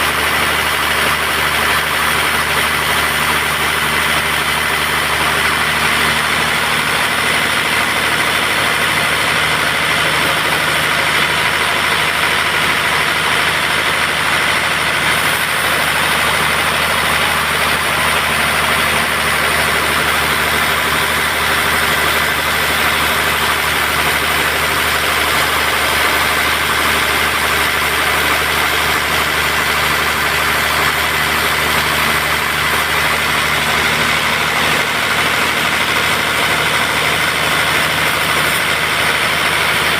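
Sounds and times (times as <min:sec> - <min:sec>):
sawmill machine drone: 0:00.0 - 0:39.9.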